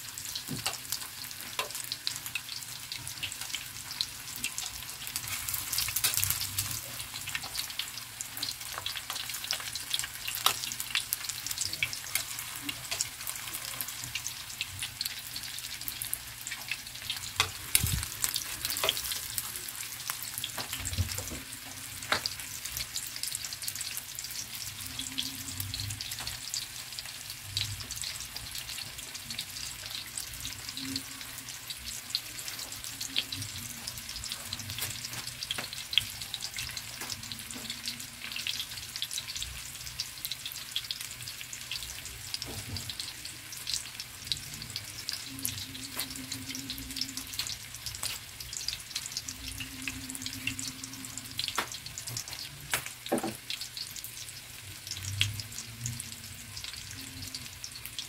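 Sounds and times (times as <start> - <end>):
food frying in hot oil: 0.0 - 58.0.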